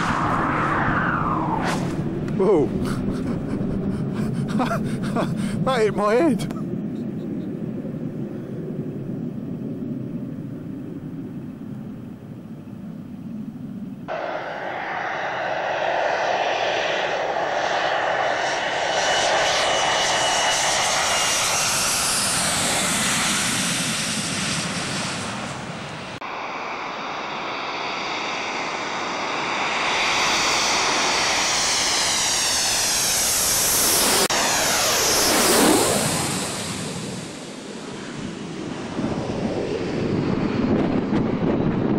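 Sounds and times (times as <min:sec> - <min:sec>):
distant jet engines rumbling: 0:00.0 - 0:41.9.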